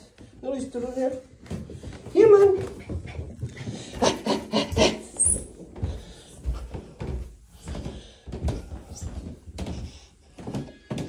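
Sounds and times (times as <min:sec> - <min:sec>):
footsteps down carpeted stairs: 0:00.0 - 0:11.0.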